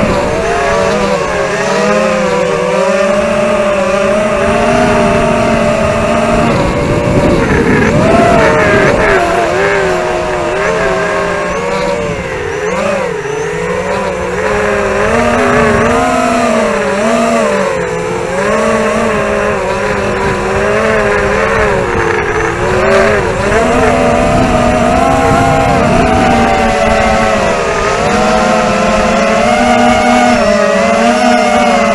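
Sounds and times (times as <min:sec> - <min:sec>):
quadcopter motors buzzing whine: 0:00.0 - 0:31.9.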